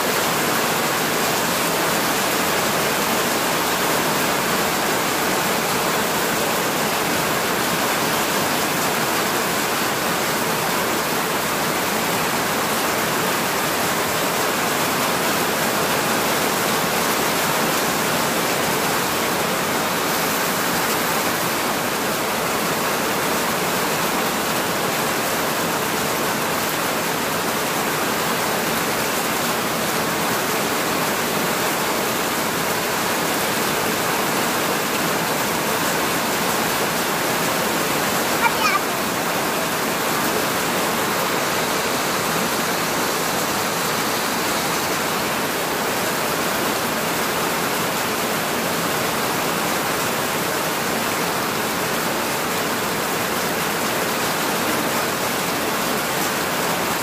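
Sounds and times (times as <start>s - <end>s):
heavy rain on plants and soil: 0.0s - 57.0s.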